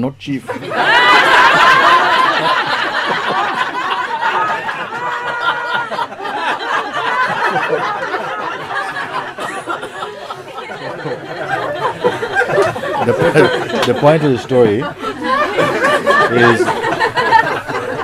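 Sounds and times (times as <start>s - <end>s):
roomful of people laughing: 0.4s - 18.0s.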